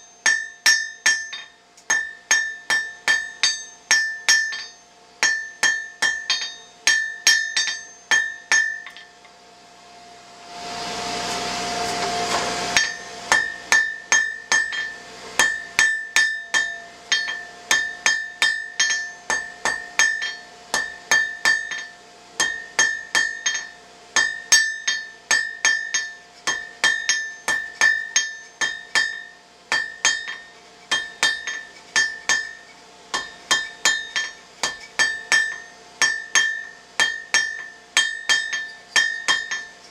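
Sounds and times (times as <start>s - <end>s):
hammer striking steel on anvil: 0.0s - 9.3s, 12.0s - 39.9s.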